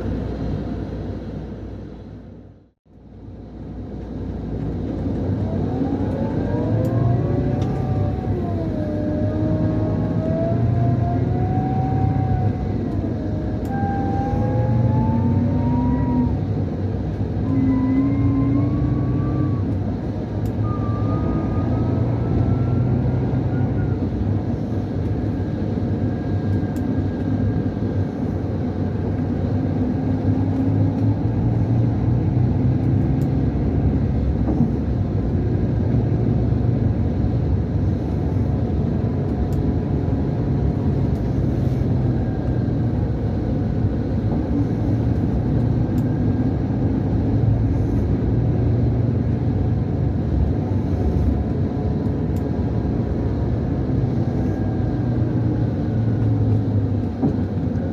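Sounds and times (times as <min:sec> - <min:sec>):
diesel coach engine: 0:00.0 - 0:57.9
engine whistle and whine: 0:00.0 - 0:57.9.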